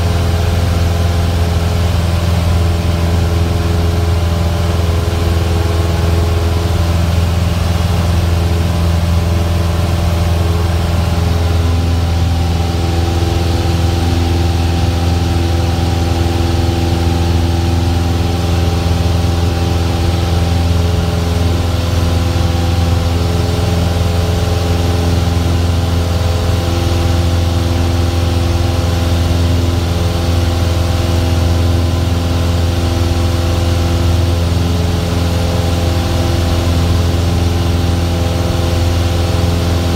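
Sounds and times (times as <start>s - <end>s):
airplane engine drone: 0.0s - 39.9s.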